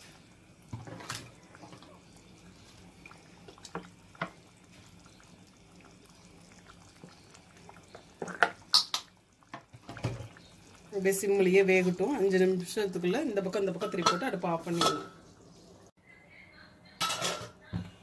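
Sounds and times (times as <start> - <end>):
curry bubbling in a pot: 0.0 - 15.9.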